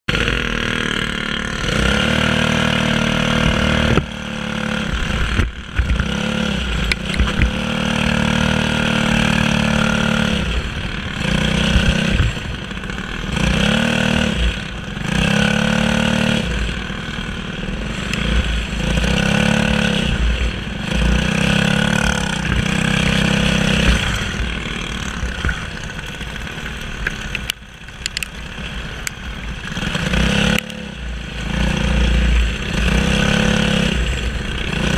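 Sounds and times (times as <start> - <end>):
kart engine revving: 0.1 - 34.9.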